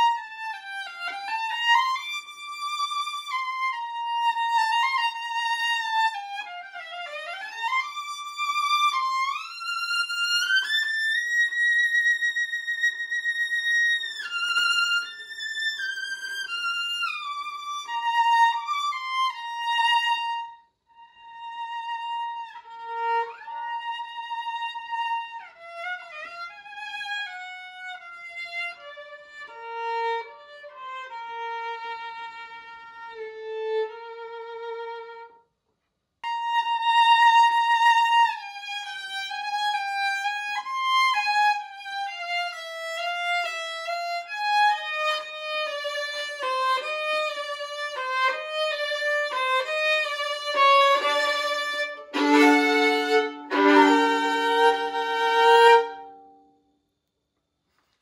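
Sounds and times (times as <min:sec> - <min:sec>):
solo violin playing: 0:00.0 - 0:35.4, 0:36.2 - 0:56.6.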